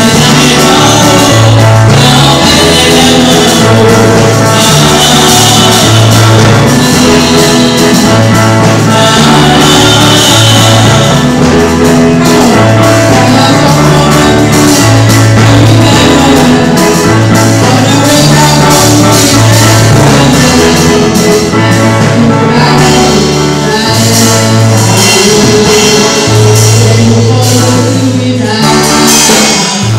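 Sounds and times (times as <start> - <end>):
live band playing: 0.0 - 29.9
singing: 0.0 - 29.9.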